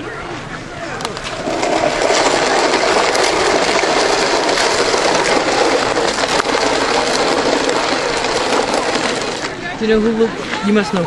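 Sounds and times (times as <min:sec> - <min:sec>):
crowd voices: 0:00.0 - 0:11.0
runners' footsteps: 0:01.0 - 0:11.0.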